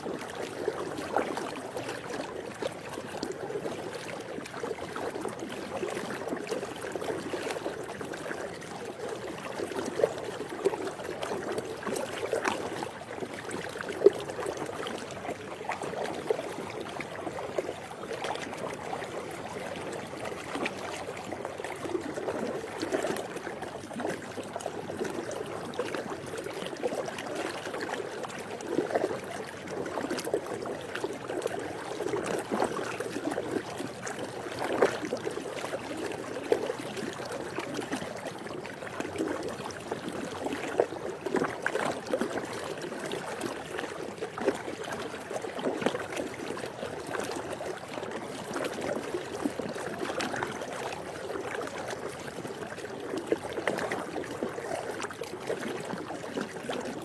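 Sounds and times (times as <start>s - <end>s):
pool water lapping: 0.0s - 57.0s
small water splashes: 0.0s - 57.0s.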